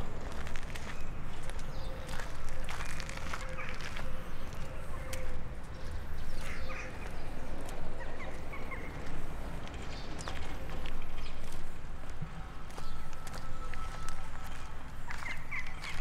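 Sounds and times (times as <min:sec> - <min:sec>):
footsteps outdoors: 0:00.0 - 0:16.0.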